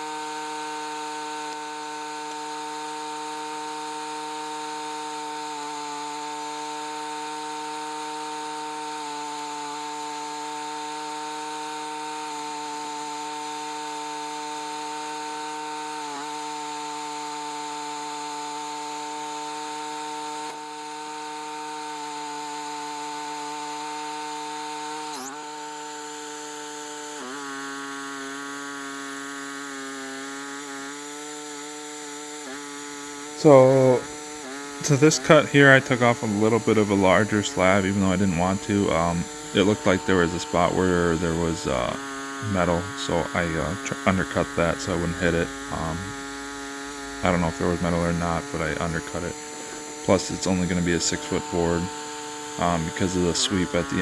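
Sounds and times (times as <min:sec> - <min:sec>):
sawmill sawing wood: 0:00.0 - 0:54.0.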